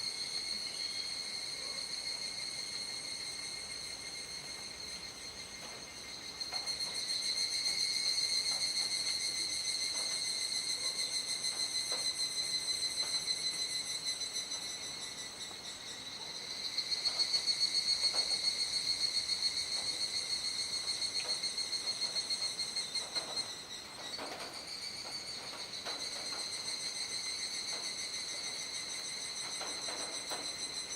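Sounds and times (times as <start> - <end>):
cicadas buzzing: 0.0 - 30.9.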